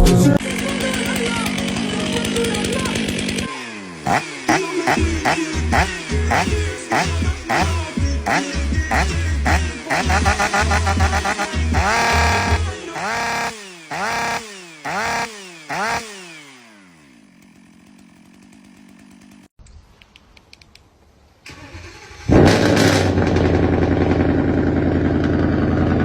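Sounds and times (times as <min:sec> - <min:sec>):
chainsaw engine running: 0:00.3 - 0:19.5, 0:21.9 - 0:26.0.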